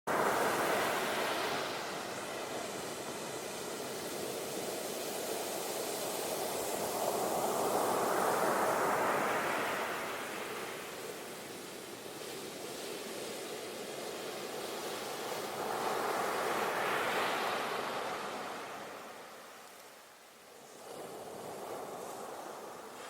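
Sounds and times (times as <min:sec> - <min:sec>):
ocean waves on shore: 0:00.1 - 0:23.0.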